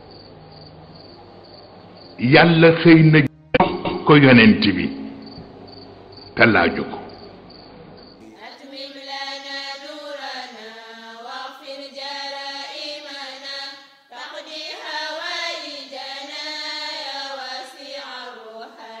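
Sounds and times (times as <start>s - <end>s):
vocal chanting: 2.2s - 7.5s, 8.2s - 19.0s.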